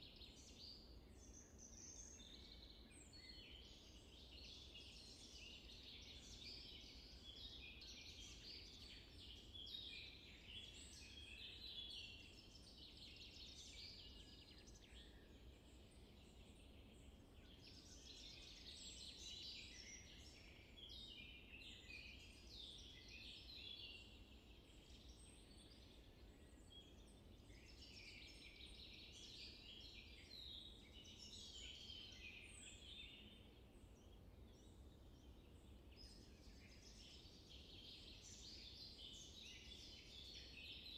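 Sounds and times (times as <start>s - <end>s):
low background hiss: 0.0s - 40.9s
songbirds chirping and trilling: 0.0s - 40.9s.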